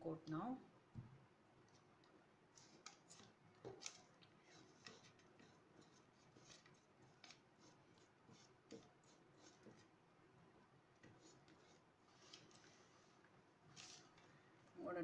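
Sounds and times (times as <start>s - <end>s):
paintbrush strokes on plastic: 1.6s - 14.8s.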